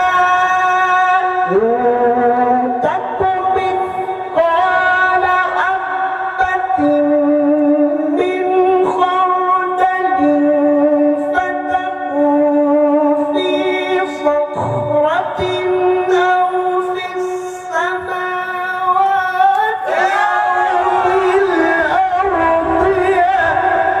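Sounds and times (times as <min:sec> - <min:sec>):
man reciting melodically: 0:00.0 - 0:24.0.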